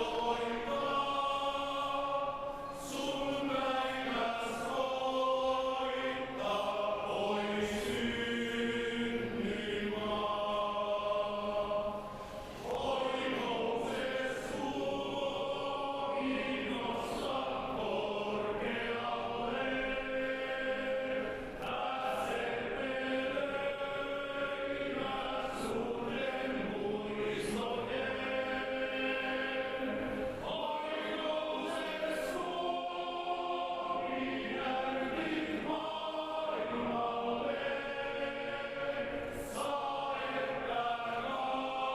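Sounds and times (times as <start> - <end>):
choir singing held chords: 0.0 - 41.9.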